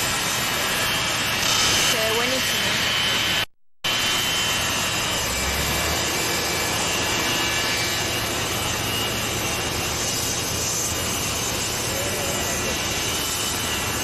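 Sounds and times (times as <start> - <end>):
jet engines taxiing: 0.0 - 14.0.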